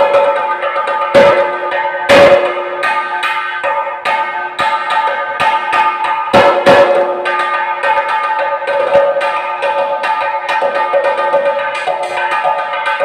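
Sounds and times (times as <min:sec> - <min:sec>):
cylindrical drum beaten with sticks: 0:00.0 - 0:13.0.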